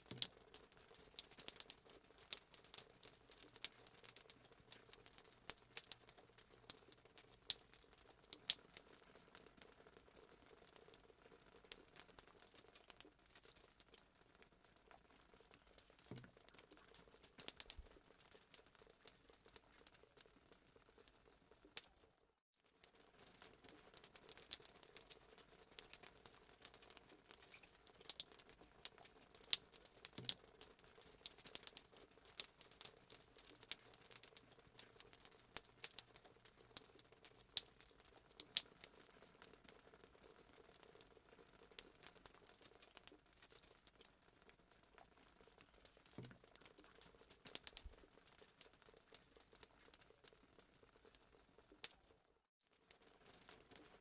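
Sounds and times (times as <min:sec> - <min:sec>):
low steady hiss: 0:00.0 - 0:54.0.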